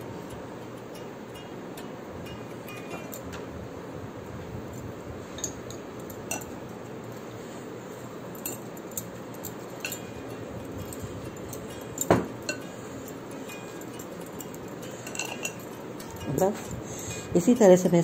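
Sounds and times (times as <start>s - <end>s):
bangles clinking: 0.0s - 18.0s
bangles tapping glass bowl: 0.6s - 3.5s, 4.6s - 7.2s, 8.3s - 18.0s.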